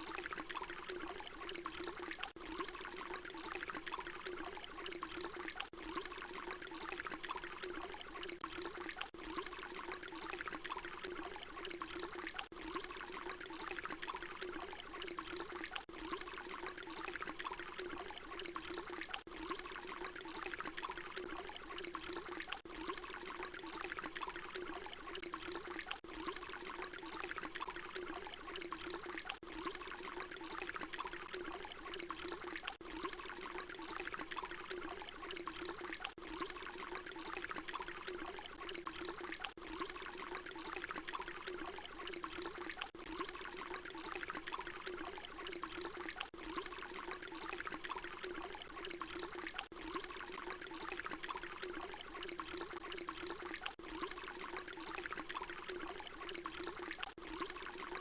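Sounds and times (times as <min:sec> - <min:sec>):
water pouring in a stream: 0:00.0 - 0:58.0.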